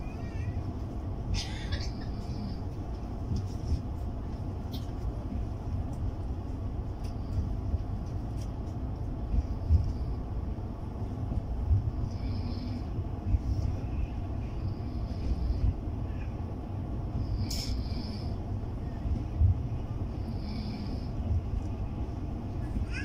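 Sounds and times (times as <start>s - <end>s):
train rumble inside coach: 0.0s - 23.0s.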